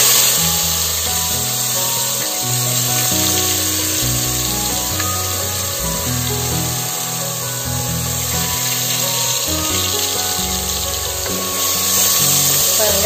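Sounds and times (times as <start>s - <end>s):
background music with bass line: 0.0s - 13.0s
onions sizzling in oil: 0.0s - 13.0s.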